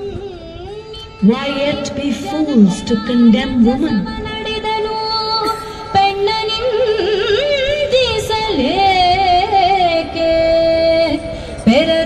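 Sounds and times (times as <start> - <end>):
woman singing: 1.0 - 12.0.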